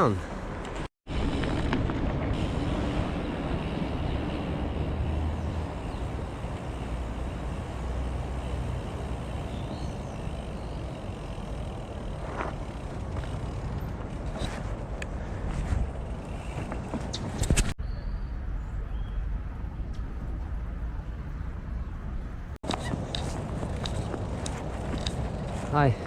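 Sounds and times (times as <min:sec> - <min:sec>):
bicycle rolling along a path: 0:00.7 - 0:17.7, 0:19.0 - 0:26.0.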